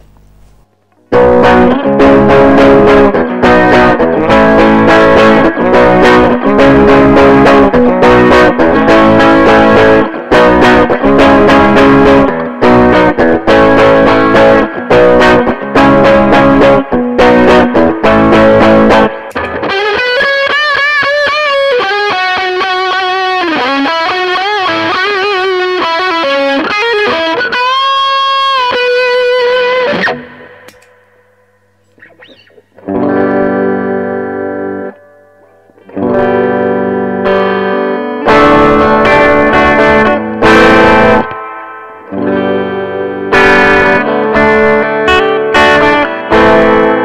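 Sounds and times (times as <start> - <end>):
electric guitar chords strummed: 0.0 - 47.0
electric guitar lead line with bends: 0.8 - 47.0.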